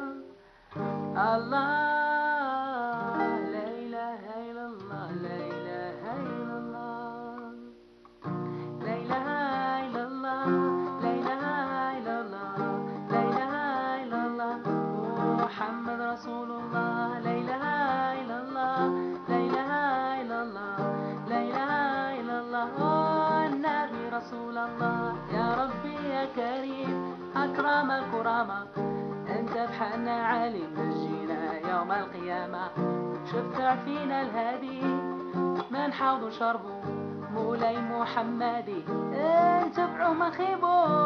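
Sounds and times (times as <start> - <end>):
song with plucked strings: 0.0 - 41.0.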